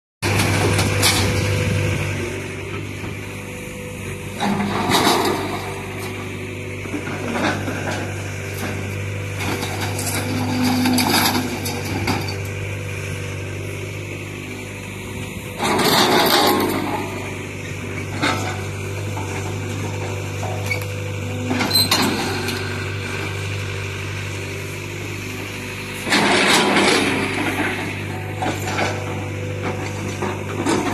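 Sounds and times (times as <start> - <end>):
low engine hum: 0.2 - 30.9.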